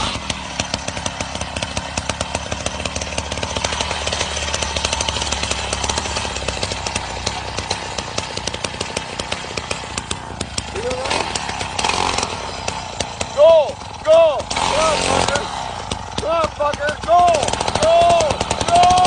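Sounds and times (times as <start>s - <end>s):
fast irregular clicking rattle: 0.0s - 19.0s
small motor humming: 0.0s - 19.0s.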